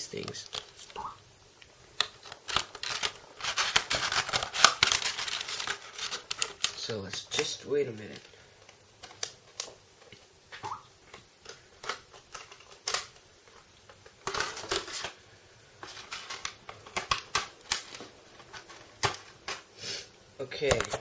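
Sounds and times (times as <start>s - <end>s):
plastic packaging clicks and rustles: 0.0s - 19.8s, 20.5s - 21.0s.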